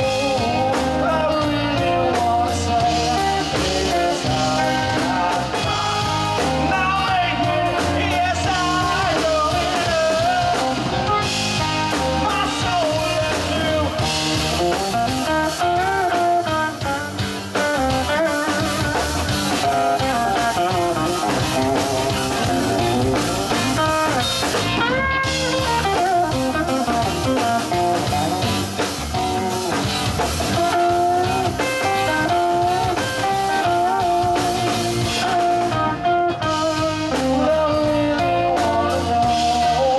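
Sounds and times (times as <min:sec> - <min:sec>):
bending guitar melody: 0:00.0 - 0:39.9
live rock band playing: 0:00.0 - 0:39.9.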